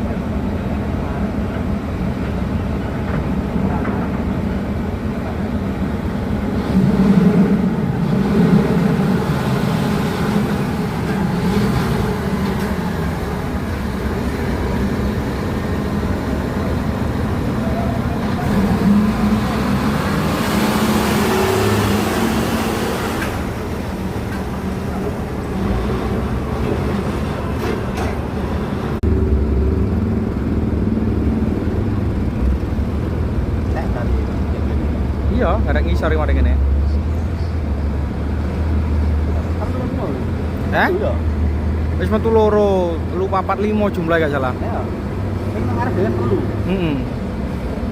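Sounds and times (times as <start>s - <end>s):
dump truck diesel engines: 0.0s - 47.9s.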